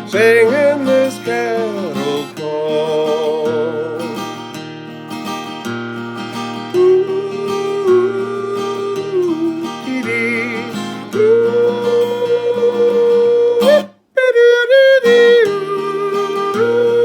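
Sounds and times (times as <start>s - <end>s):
person singing wordless held notes: 0.0s - 4.3s, 6.8s - 17.0s
acoustic guitar strumming: 0.0s - 17.0s.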